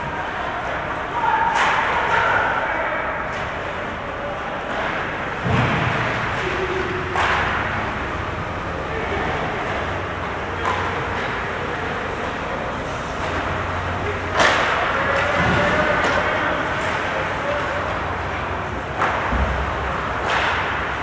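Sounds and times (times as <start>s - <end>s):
hockey sticks and puck clacking: 0.0s - 21.0s
players calling: 0.0s - 21.0s.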